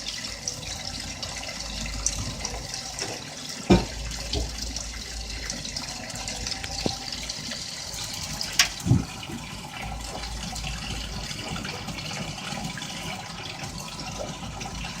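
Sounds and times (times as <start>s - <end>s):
washing machine low hum: 0.0s - 15.0s
washing machine water sloshing: 0.0s - 15.0s.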